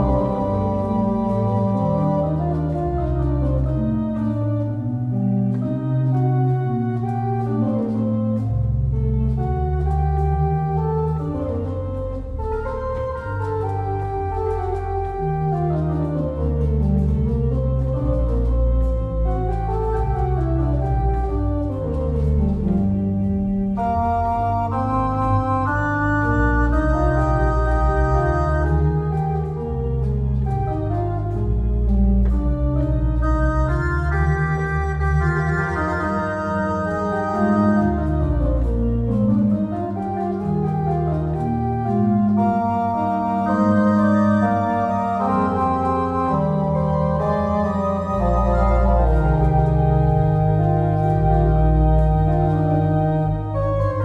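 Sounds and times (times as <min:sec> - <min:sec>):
pipe organ playing: 0:00.0 - 0:54.0.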